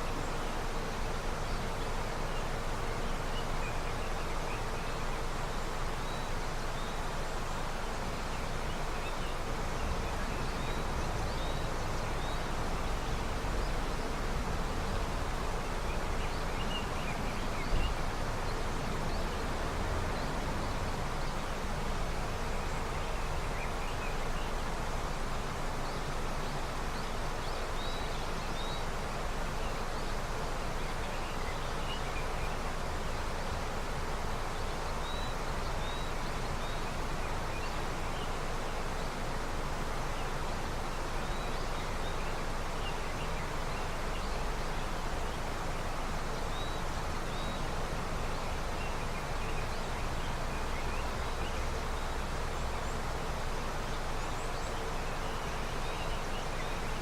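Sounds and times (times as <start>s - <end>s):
river rushing: 0.0s - 57.0s.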